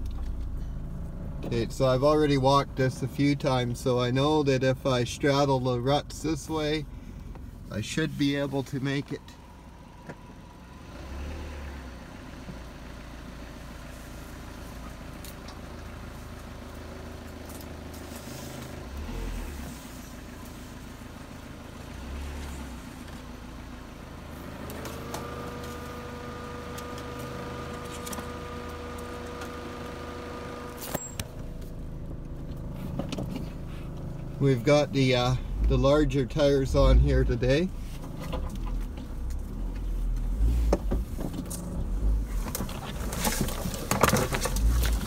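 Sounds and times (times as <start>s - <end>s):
car engine running slowly: 0.0s - 45.0s.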